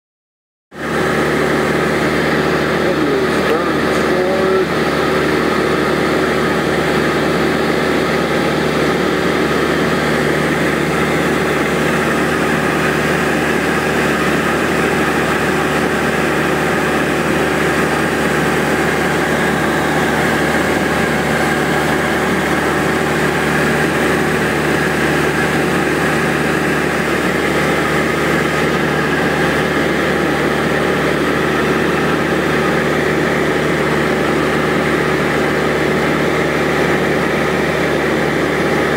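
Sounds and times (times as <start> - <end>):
aircraft engine and propeller drone: 0.7 - 38.9.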